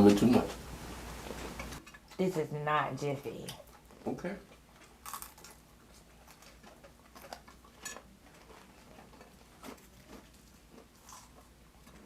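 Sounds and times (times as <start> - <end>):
chewing sounds: 1.3 - 2.4, 3.3 - 12.0.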